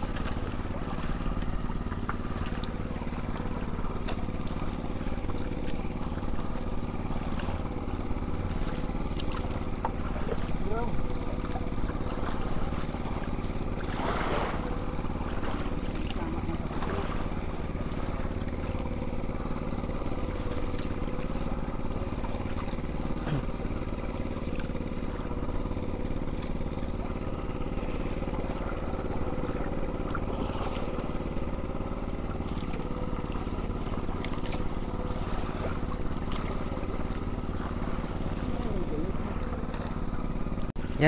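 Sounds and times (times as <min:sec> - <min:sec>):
boat engine running: 0:00.0 - 0:41.0.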